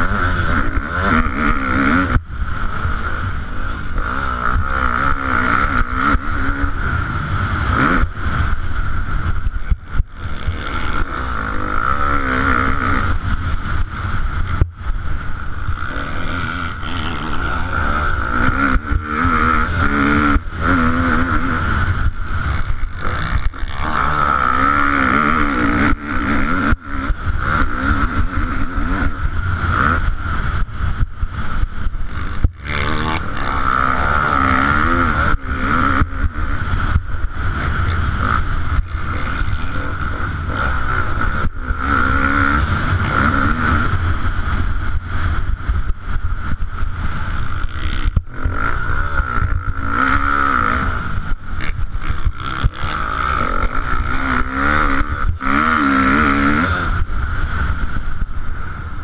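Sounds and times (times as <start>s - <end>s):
motocross bike engine revving: 0.0s - 59.0s
wind rumble on microphone: 0.0s - 59.0s.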